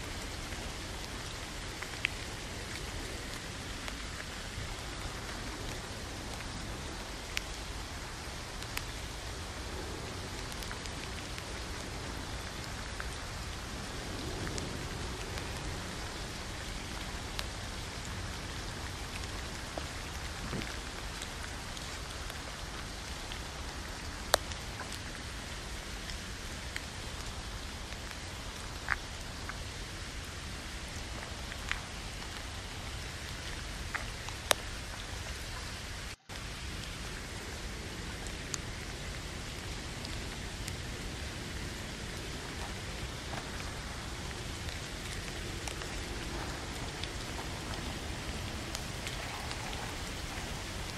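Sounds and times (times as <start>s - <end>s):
rain on a tent: 0.0s - 50.9s.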